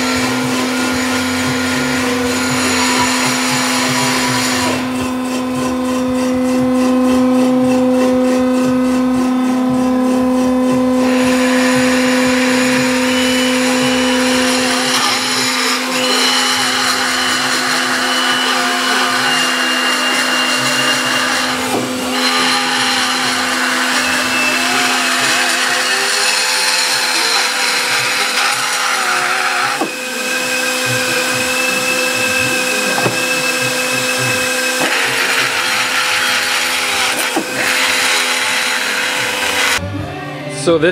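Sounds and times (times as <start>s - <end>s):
cutter machining metal: 0.0s - 39.8s
machine motor humming: 0.0s - 40.0s.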